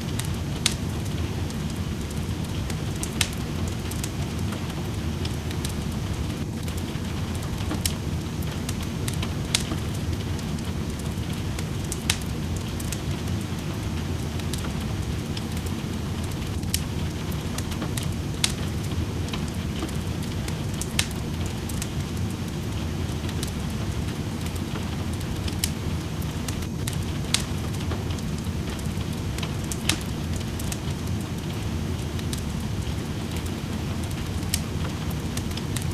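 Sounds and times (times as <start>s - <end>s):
steady rain: 0.0s - 35.9s
wood fire crackling and popping: 0.0s - 35.9s.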